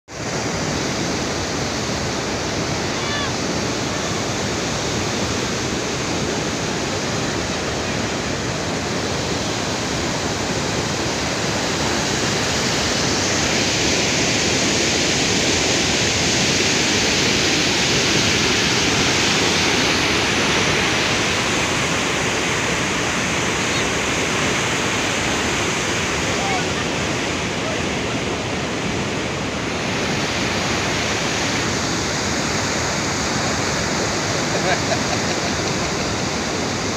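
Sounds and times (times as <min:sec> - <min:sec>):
floodwater rushing: 0:00.1 - 0:36.9.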